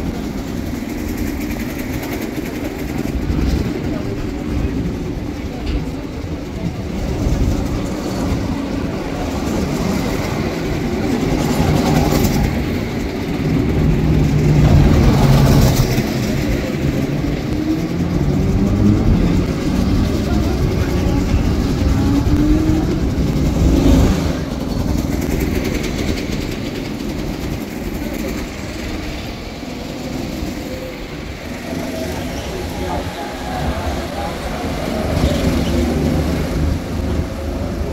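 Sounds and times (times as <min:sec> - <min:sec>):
go-kart engines passing: 0:00.0 - 0:37.9.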